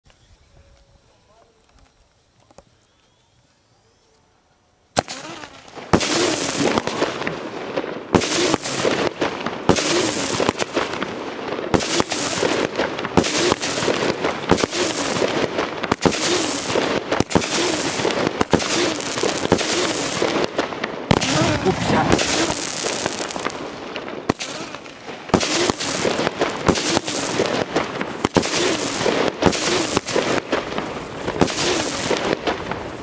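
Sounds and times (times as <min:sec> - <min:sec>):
fireworks crackling: 0:00.1 - 0:33.0
fireworks bangs: 0:04.9 - 0:33.0.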